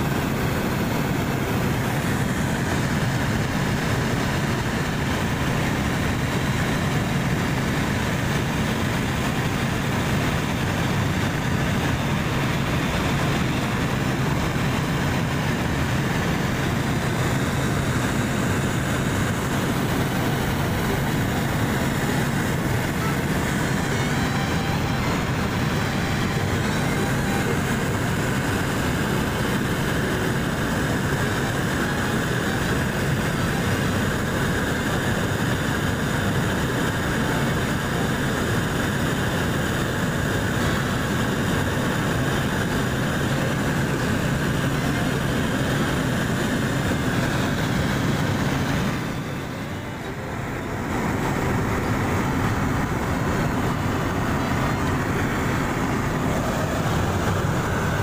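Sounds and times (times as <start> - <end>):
small plane engine drone: 0.0 - 58.0.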